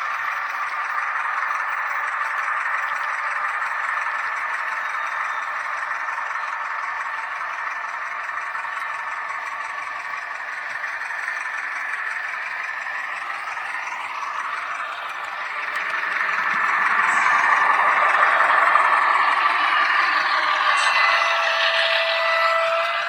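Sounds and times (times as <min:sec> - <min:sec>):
model train running on track: 0:00.0 - 0:23.0.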